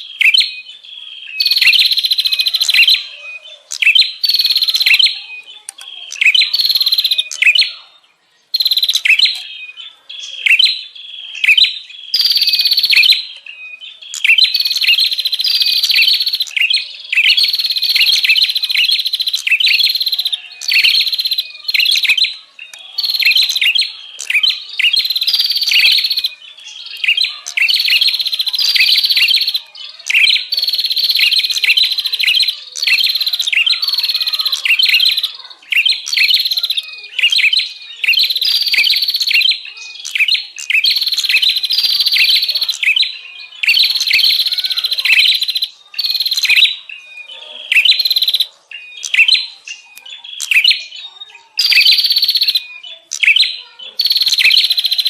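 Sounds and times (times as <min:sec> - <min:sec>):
songbird chattering calls: 0:00.0 - 0:55.0.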